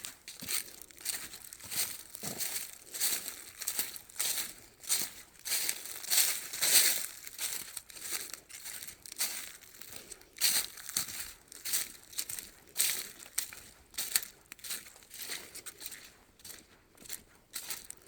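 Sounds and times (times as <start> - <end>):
footsteps crunching on trail: 0.0 - 18.0.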